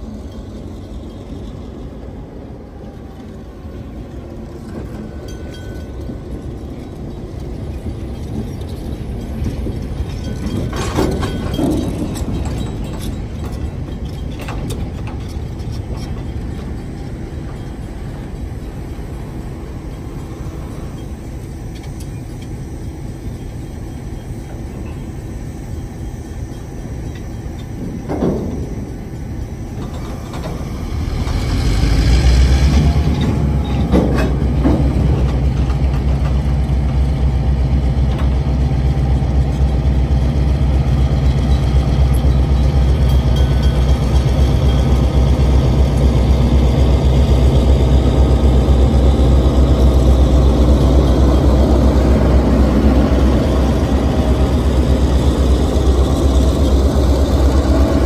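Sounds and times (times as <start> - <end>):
diesel locomotive engine throbbing: 0.0 - 58.0.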